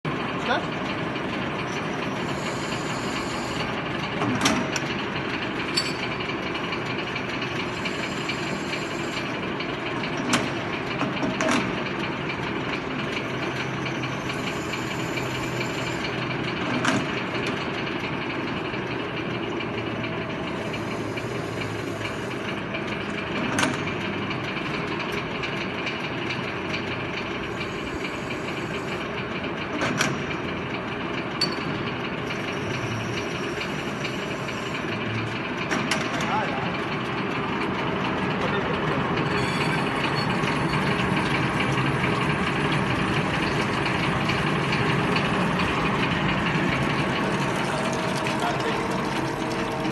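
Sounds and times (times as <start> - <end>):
bottle washing machine drone: 0.0 - 49.9.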